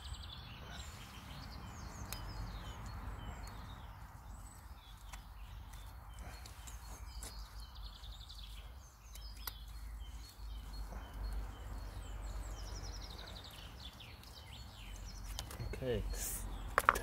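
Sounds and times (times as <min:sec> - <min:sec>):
small birds singing: 0:00.0 - 0:17.0.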